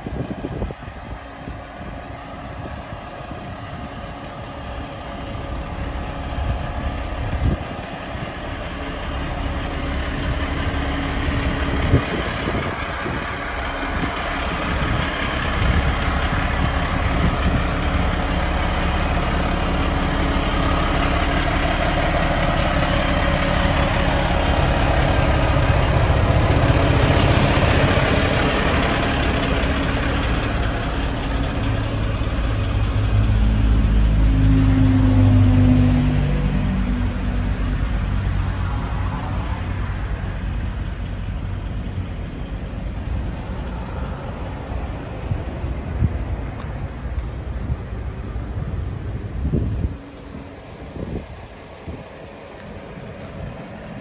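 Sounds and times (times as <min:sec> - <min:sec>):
diesel bus engine idling: 0:00.0 - 0:54.0.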